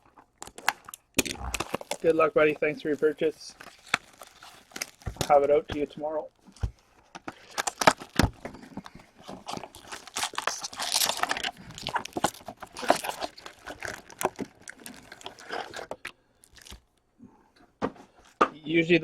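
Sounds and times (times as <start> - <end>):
wrapper crinkling and tearing: 0.1 - 6.7, 7.3 - 17.0.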